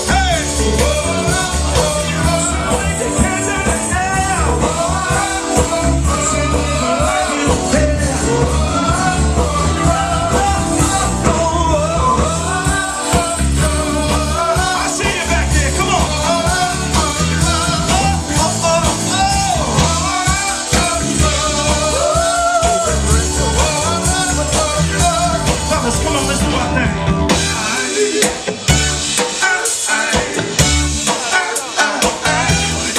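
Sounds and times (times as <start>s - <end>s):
soul band playing: 0.0s - 32.9s.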